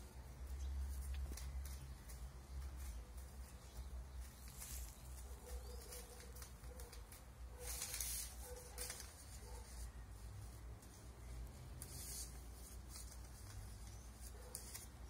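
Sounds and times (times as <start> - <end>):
newspaper rustling: 0.0 - 15.0.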